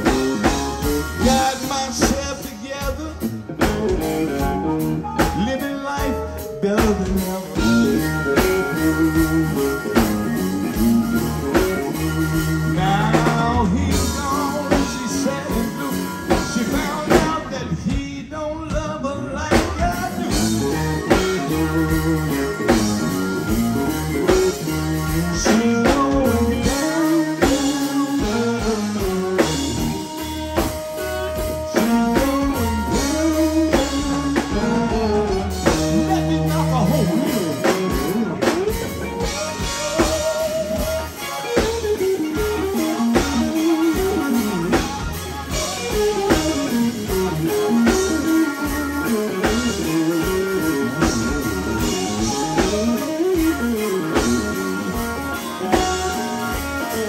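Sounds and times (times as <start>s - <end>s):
live blues band playing: 0.0s - 57.0s
man singing: 0.0s - 57.0s.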